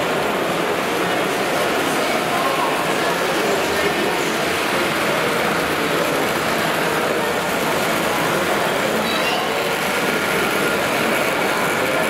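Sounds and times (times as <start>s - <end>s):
background chatter: 0.0s - 12.0s
model trains rattling on track: 0.0s - 12.0s.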